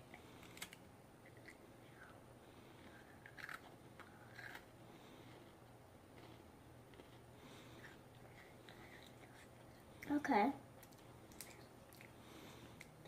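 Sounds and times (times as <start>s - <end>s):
cookie being bitten and chewed: 0.1s - 2.2s, 2.8s - 10.0s, 10.8s - 13.0s.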